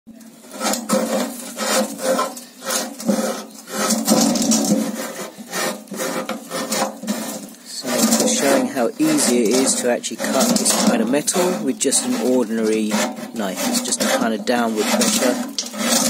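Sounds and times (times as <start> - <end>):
knife scraping metal lid: 0.3 - 16.0.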